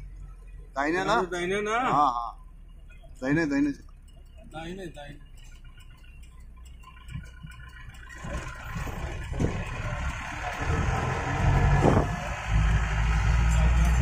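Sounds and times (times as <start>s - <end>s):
jeep engine: 0.0s - 14.0s
road noise: 0.0s - 14.0s.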